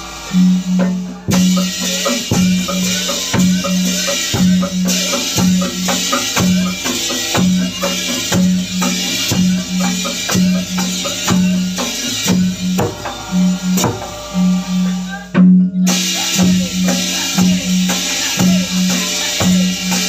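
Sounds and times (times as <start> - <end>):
drums struck on a steady beat: 0.0 - 20.0.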